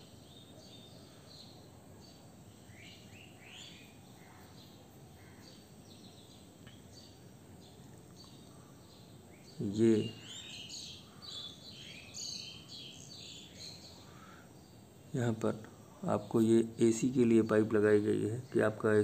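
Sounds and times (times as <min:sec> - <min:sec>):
faint birds chirping: 0:00.0 - 0:19.0
steady low background noise: 0:00.0 - 0:19.0.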